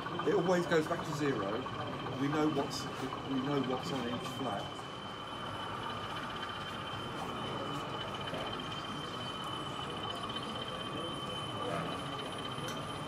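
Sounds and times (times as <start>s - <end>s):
exhibition hall hubbub: 0.0s - 13.0s
model train motor whine: 0.0s - 13.0s.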